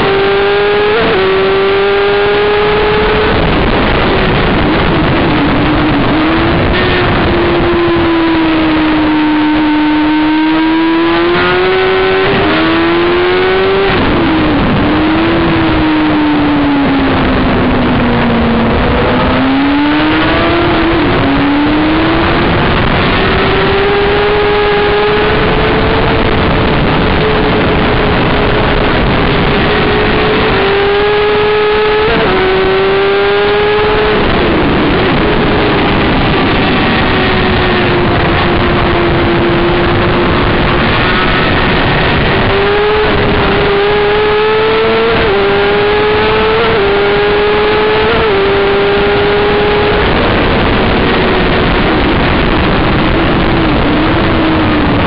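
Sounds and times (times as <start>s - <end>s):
motorcycle engine at full throttle: 0.0s - 55.0s
wind rush over camera: 0.0s - 55.0s.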